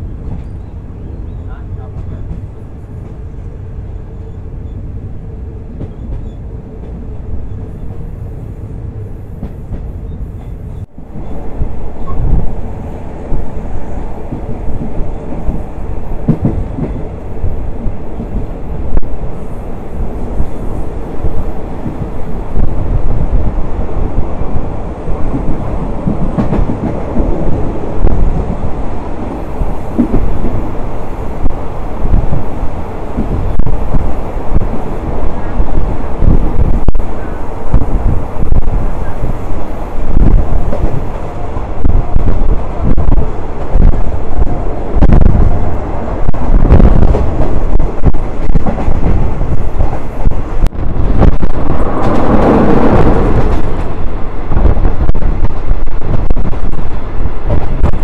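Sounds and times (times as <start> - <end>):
train wheels rumbling and rattling: 0.0 - 58.0
train knocks: 1.8 - 3.6, 5.7 - 7.6, 9.3 - 19.1, 21.2 - 58.0.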